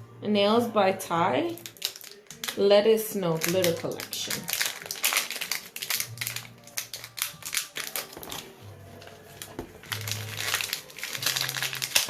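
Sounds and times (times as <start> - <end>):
faint music: 0.0 - 12.0
packaging clicks and crinkles: 1.6 - 2.6, 3.4 - 12.0.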